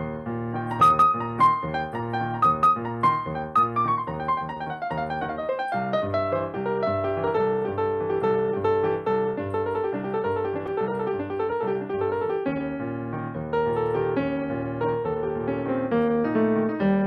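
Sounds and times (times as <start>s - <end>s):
piano playing: 0.0s - 17.0s.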